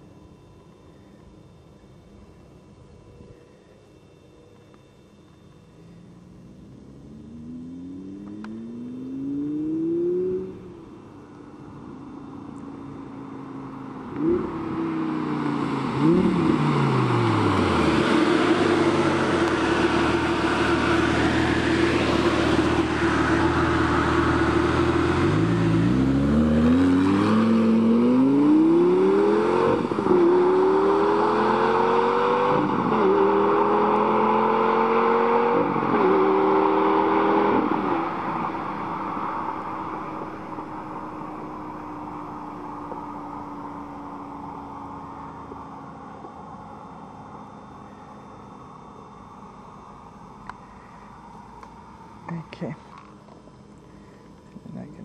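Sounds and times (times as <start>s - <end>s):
sports car exhaust accelerating: 2.3s - 55.0s.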